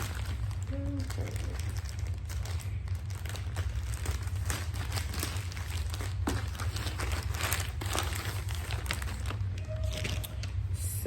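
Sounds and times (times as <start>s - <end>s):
packaging rustling and crinkling: 0.0s - 10.8s
steady low hum: 0.0s - 11.0s.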